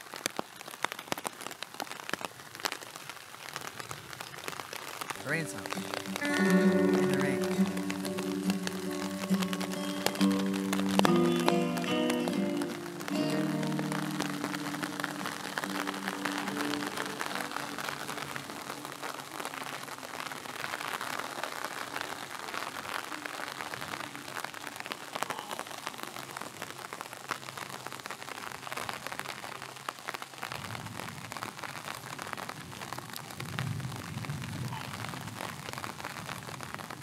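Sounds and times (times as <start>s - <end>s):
rain falling on a tarp: 0.0s - 37.0s.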